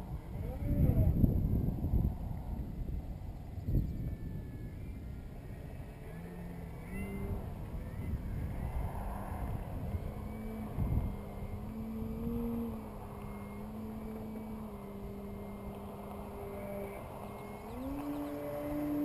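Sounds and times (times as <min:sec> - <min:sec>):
model plane motor droning: 0:00.0 - 0:19.0
wind rumbling on microphone: 0:00.0 - 0:19.0.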